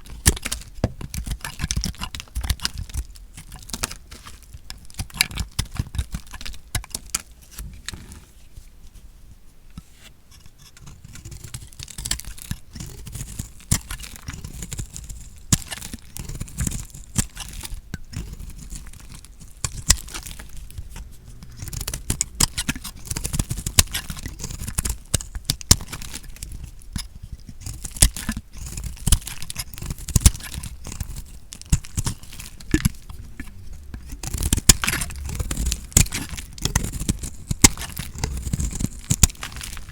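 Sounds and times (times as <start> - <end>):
knife cutting through soap: 0.0 - 8.4, 9.8 - 39.9.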